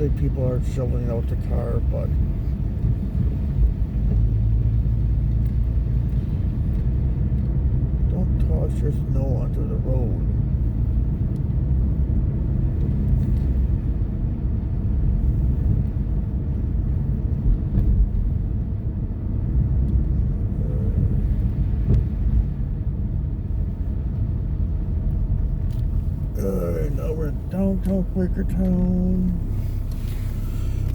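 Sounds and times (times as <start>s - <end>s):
engine and tyres rumbling: 0.0s - 30.9s.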